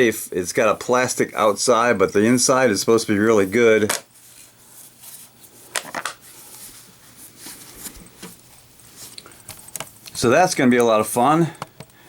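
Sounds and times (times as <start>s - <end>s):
objects being moved and rubbed: 0.1s - 10.5s.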